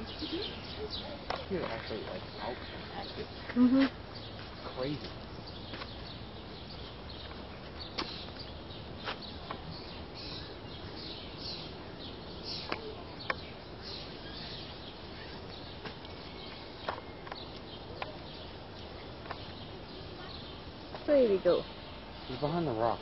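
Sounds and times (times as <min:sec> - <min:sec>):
outdoor ambience: 0:00.0 - 0:23.0
small birds chirping: 0:00.0 - 0:23.0.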